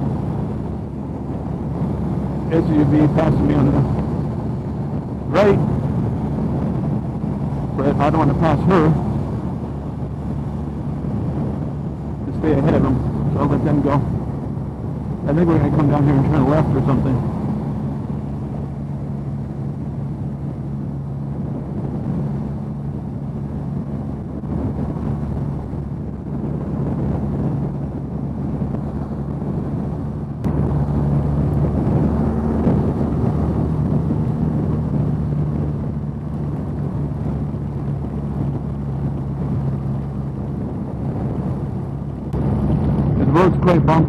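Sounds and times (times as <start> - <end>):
motorcycle engine cruising: 0.0 - 44.0
wind noise: 0.0 - 44.0.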